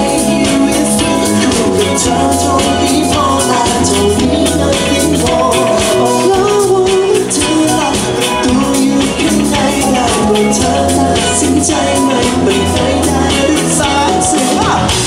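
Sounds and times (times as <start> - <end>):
live band playing pop song: 0.0 - 15.0
man singing into microphone: 0.0 - 15.0
steady drum beat: 0.0 - 15.0.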